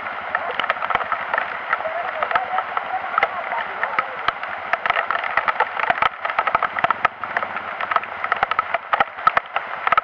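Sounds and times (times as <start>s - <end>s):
heavy rain hiss: 0.0s - 10.0s
raindrops clicking near microphone: 0.0s - 10.0s.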